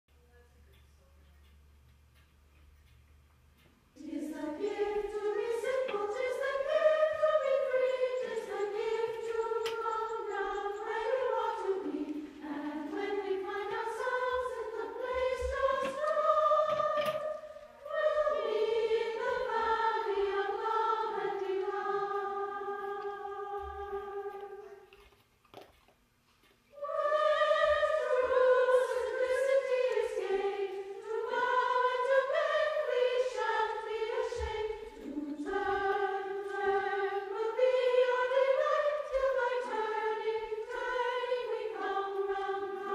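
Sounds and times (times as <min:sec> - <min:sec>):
voices singing long held notes: 0:04.0 - 0:24.9, 0:26.8 - 0:42.9.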